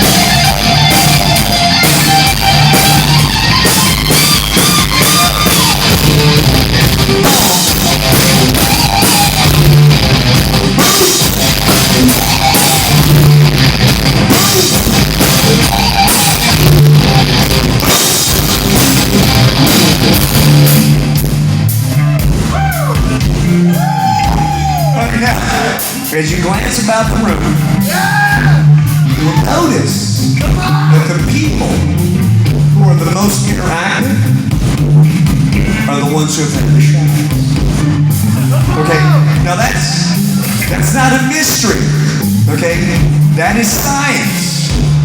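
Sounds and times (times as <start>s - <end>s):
loud rock music: 0.0s - 45.0s.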